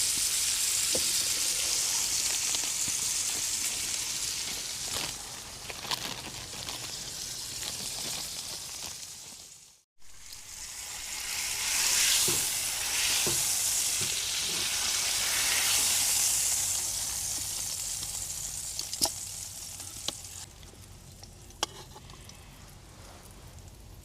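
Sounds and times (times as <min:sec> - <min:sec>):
meat sizzling in a hot pan: 0:00.0 - 0:20.5.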